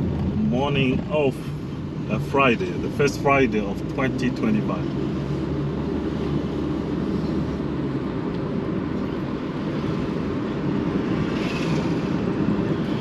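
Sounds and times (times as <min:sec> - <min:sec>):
low engine drone: 0:00.0 - 0:11.2
road noise inside car: 0:00.0 - 0:13.0.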